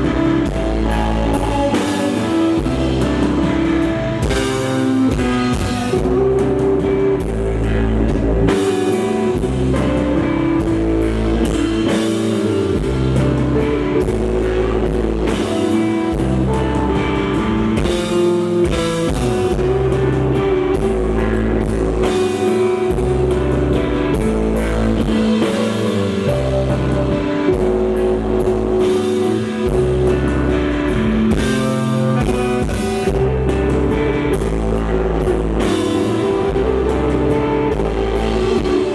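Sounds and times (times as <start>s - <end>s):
drum kit: 0.0s - 38.9s
electric guitar: 0.0s - 38.9s.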